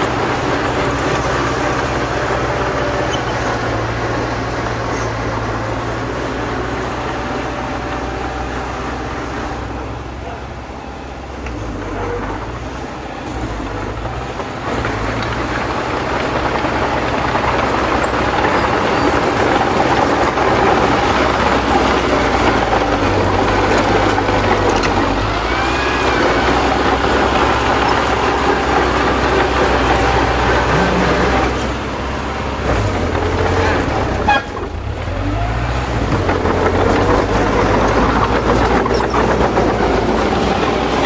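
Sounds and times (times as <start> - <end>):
bulldozer diesel engine: 0.0 - 41.0.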